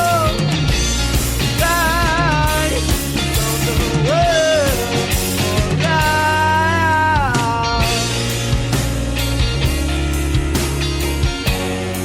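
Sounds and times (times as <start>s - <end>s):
rock song with full band: 0.0s - 12.0s.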